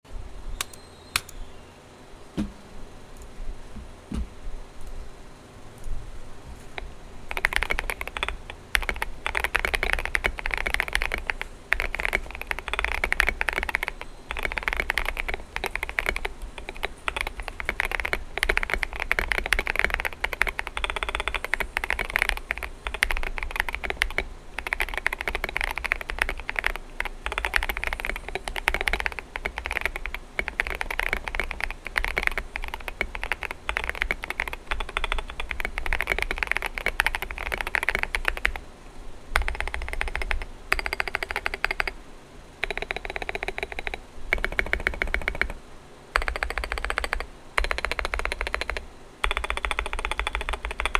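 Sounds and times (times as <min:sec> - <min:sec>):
fast mechanical keyboard typing: 0:06.6 - 0:38.6, 0:39.3 - 0:42.0, 0:42.6 - 0:50.9.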